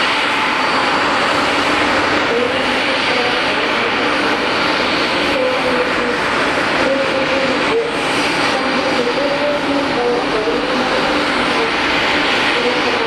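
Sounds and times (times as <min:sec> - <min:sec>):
jet engines rushing hiss: 0:00.0 - 0:13.0.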